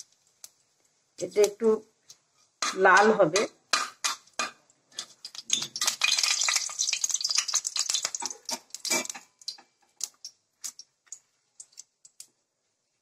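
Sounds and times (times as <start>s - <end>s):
spatula stirring against pan: 0.0s - 12.2s
spices crackling in hot oil: 0.0s - 13.0s.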